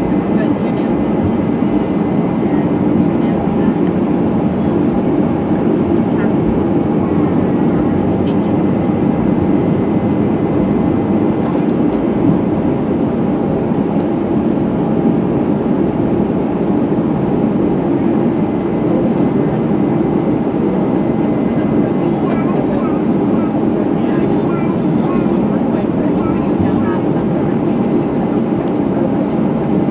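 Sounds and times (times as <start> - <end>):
jet engines roaring in cabin: 0.0 - 29.9.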